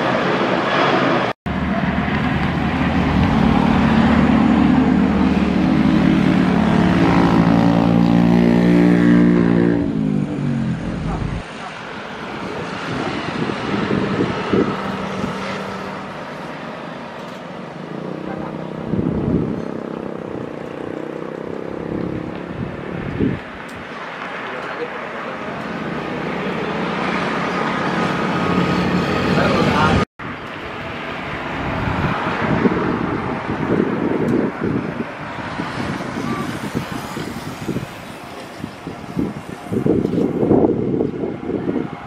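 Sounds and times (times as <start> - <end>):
jet plane rolling on runway: 0.0 - 7.7, 9.8 - 42.0
jet engines passing: 0.0 - 42.0.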